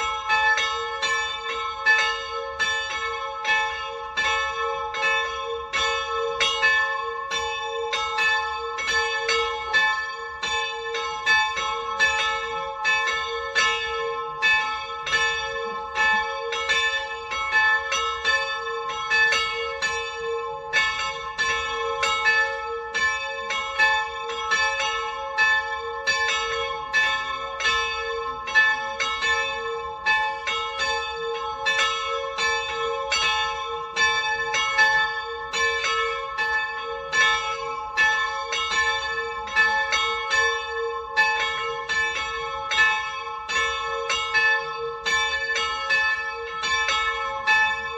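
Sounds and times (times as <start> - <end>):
small church bells ringing: 0.0 - 47.9.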